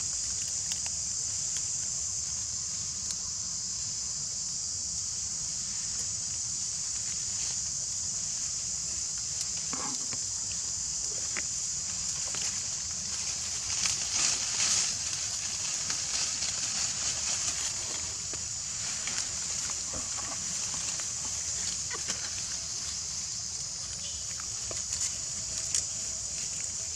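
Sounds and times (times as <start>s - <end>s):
high-pitched insect drone: 0.0s - 26.9s.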